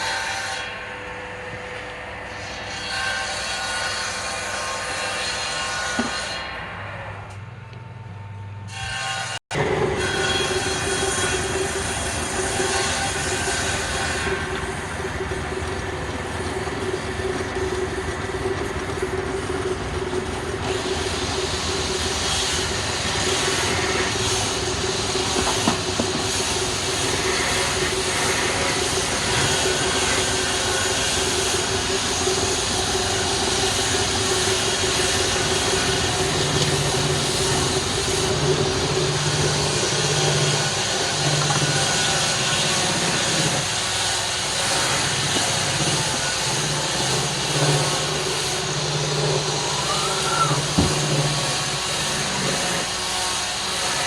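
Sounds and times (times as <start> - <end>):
lathe motor hum: 10.4 - 54.0
wood lathe hissing: 10.4 - 54.0.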